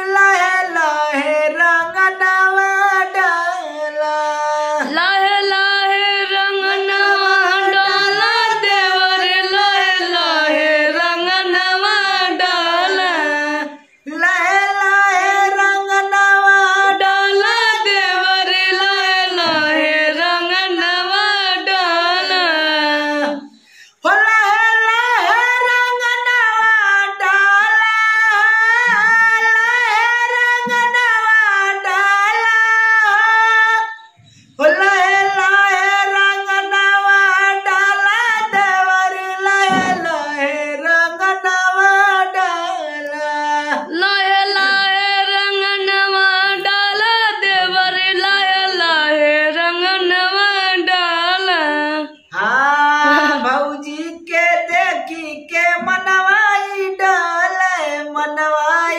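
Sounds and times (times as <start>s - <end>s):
person singing unaccompanied folk song: 0.0s - 58.9s.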